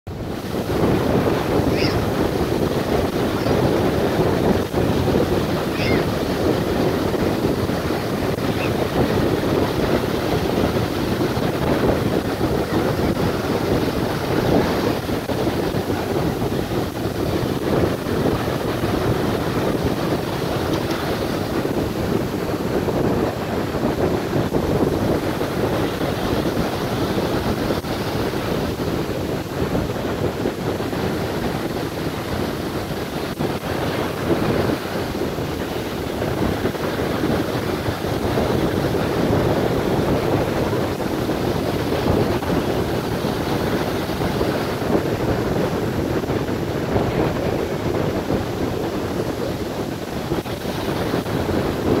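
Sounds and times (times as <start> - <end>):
surf washing up beach: 0.1 - 52.0.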